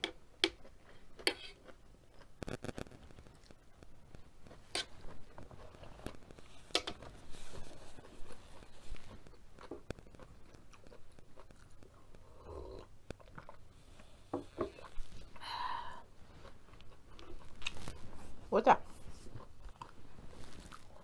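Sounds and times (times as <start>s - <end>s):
chewing food: 0.0s - 21.0s.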